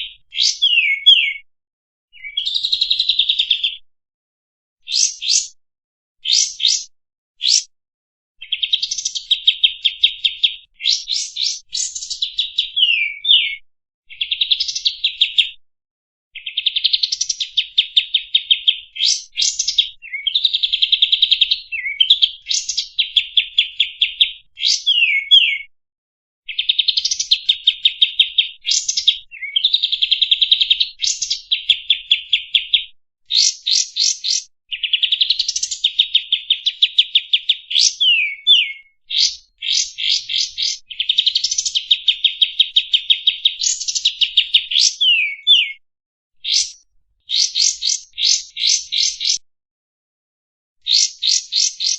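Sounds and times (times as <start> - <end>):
songbird trills and whistles: 0.0 - 1.4, 2.2 - 3.8, 4.8 - 5.6, 6.2 - 7.7, 8.4 - 15.5, 16.4 - 25.7, 26.5 - 45.8, 46.4 - 49.4, 50.8 - 51.9.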